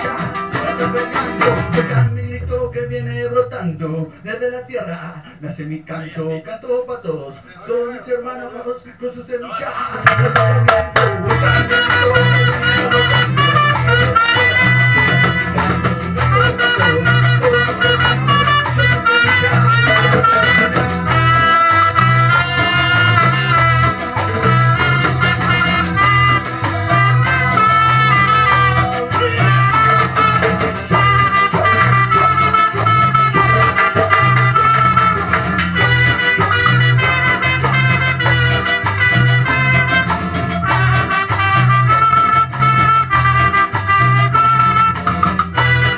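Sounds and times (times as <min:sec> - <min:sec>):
band playing salsa music: 0:00.0 - 0:04.0, 0:09.9 - 0:45.9
brass lines: 0:00.0 - 0:04.1, 0:11.0 - 0:45.9.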